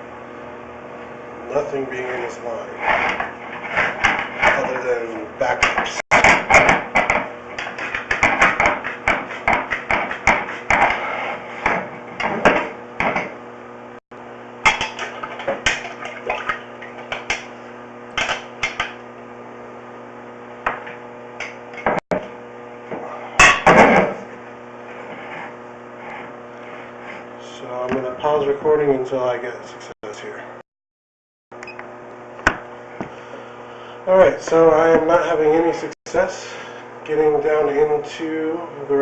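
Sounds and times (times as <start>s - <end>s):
steady electrical hum: 0.0s - 30.6s, 31.6s - 39.0s.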